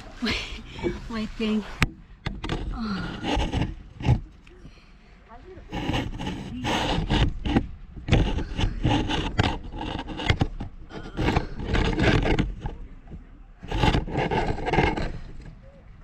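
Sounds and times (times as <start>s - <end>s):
scraping and rubbing noise: 0.0s - 4.7s, 5.4s - 16.0s.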